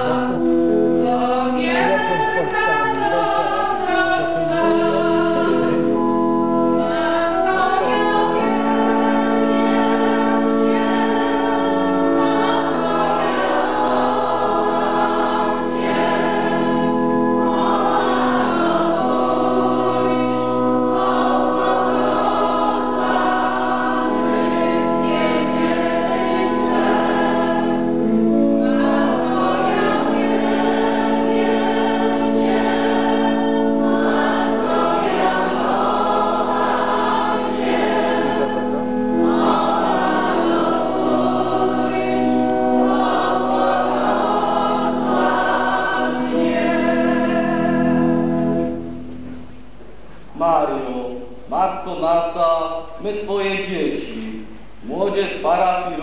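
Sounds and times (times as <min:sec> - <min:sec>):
choir singing a hymn: 0:00.0 - 0:49.1
organ held notes: 0:00.0 - 0:49.7.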